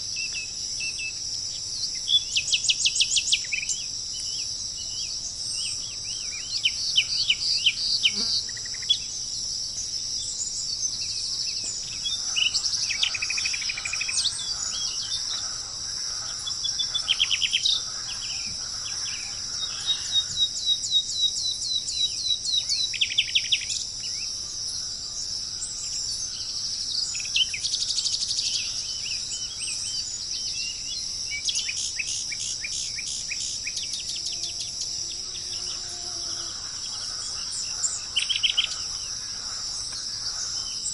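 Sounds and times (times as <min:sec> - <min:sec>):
birds chirping and trilling: 0:00.0 - 0:40.9
high-pitched insect drone: 0:00.0 - 0:40.9.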